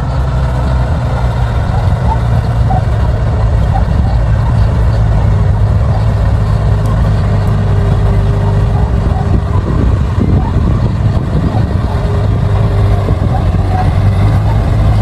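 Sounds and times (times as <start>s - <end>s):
bulldozer diesel engine drone: 0.0s - 15.0s.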